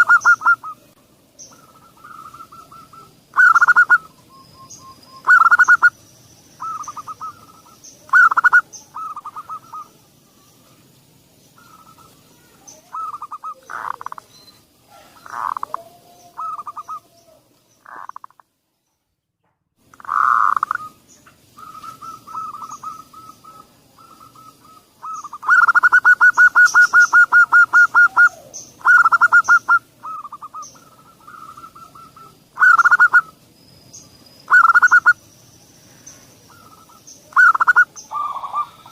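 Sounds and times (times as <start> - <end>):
dove cooing: 0.0 - 0.9, 1.5 - 6.0, 6.6 - 10.4, 11.6 - 14.3, 14.9 - 18.3, 20.0 - 33.4, 34.5 - 35.2, 36.5 - 38.9.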